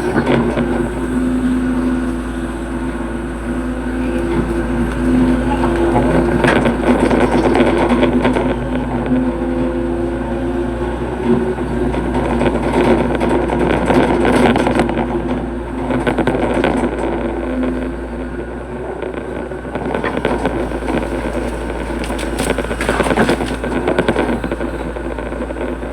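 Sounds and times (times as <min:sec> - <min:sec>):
dense crackling noise: 0:00.0 - 0:10.4, 0:11.4 - 0:25.9
excavator diesel engine running: 0:00.0 - 0:25.9.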